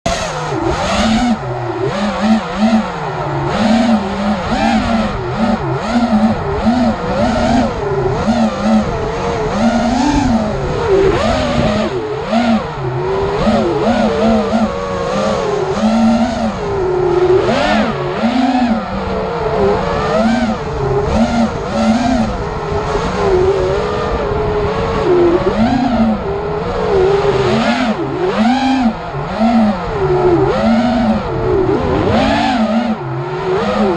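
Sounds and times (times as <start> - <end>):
drone motors buzzing: 0.0 - 33.9.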